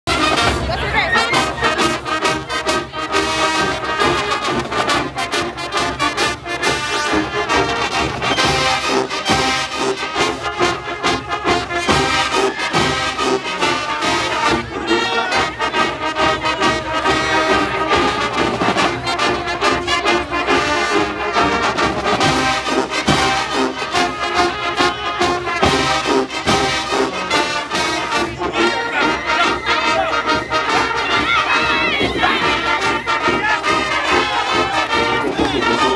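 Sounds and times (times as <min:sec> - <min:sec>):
brass section playing: 0:00.1 - 0:35.9
drums keeping a beat: 0:00.1 - 0:35.9.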